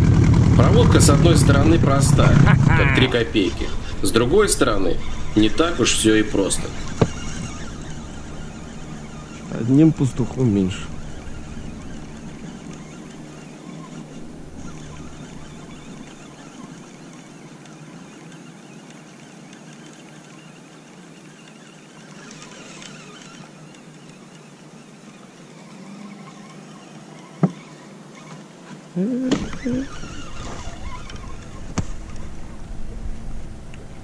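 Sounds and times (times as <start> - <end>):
inflatable boat running: 0.0 - 34.0.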